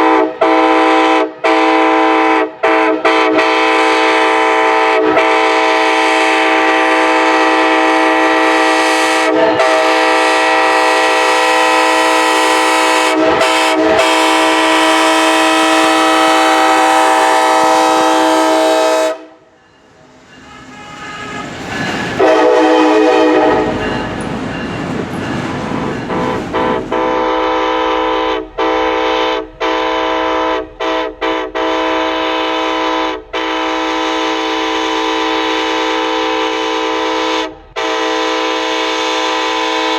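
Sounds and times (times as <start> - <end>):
locomotive air horn: 0.0 - 19.6, 20.4 - 23.9, 26.1 - 39.9
train noise: 0.0 - 39.9.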